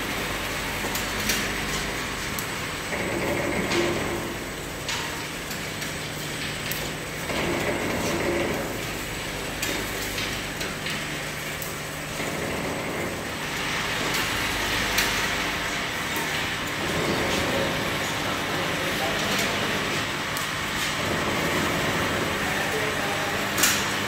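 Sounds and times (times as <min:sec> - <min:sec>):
machine whirr: 0:00.0 - 0:24.0.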